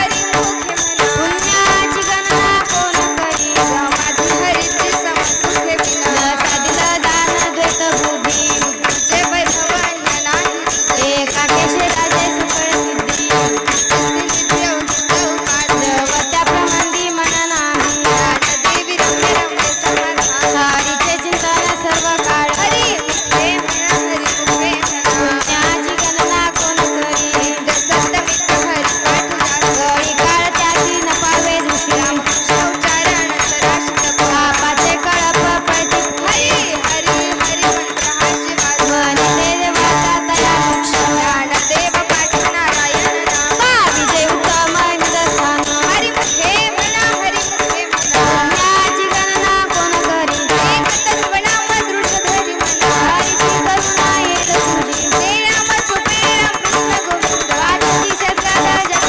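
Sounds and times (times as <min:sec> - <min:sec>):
jingling rattling percussion: 0:00.0 - 0:59.0
sustained steady tones: 0:00.0 - 0:59.0.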